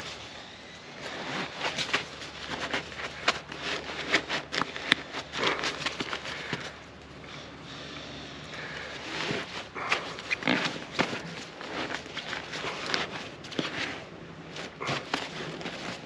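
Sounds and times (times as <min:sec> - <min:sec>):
nylon fabric rustling: 0:00.9 - 0:07.0, 0:08.6 - 0:16.0
straps pulled through buckles: 0:00.9 - 0:07.3, 0:08.5 - 0:16.0.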